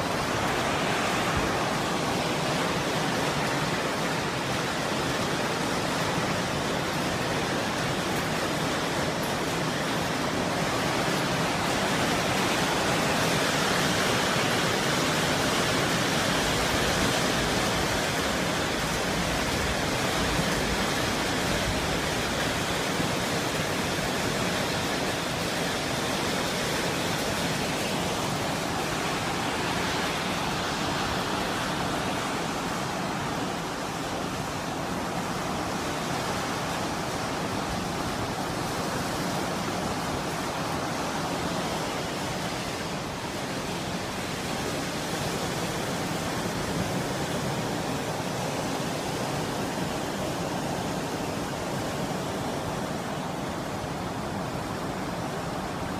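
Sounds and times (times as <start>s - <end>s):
heavy rain and hail: 0.0s - 55.9s.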